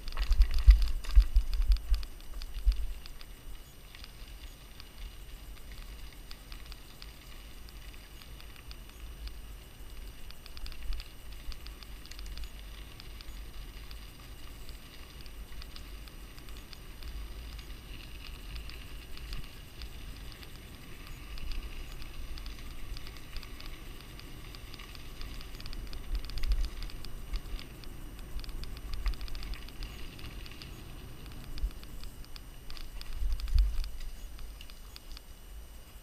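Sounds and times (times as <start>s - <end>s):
tyres crackling over dirt and stones: 0.0s - 36.0s
wind rumbling on microphone: 0.0s - 36.0s.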